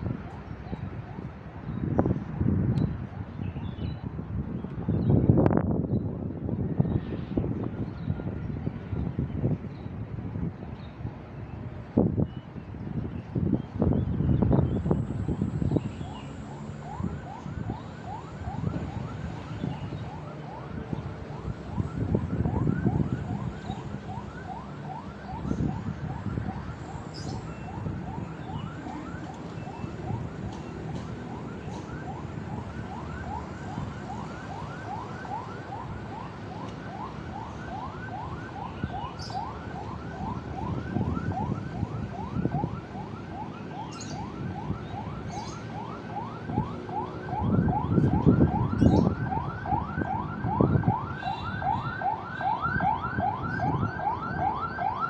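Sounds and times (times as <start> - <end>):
low rumble of wind or traffic: 0.0 - 55.0.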